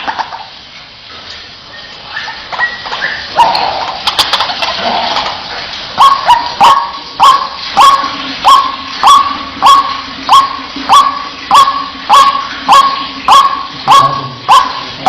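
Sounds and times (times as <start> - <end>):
waterhen calling: 1.5 - 15.0.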